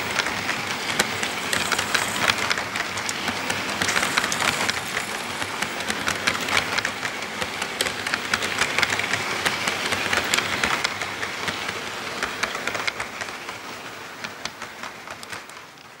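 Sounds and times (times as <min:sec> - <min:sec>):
model train wheels clicking: 0:00.0 - 0:16.0.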